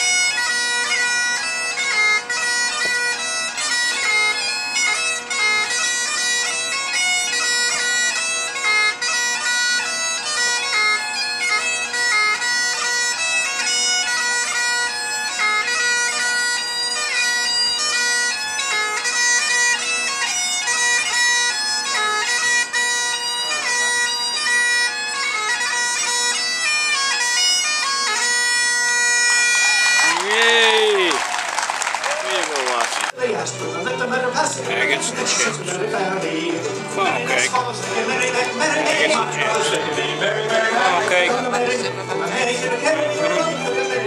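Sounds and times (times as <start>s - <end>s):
bagpipe playing a tune: 0.0s - 31.2s, 32.1s - 44.0s.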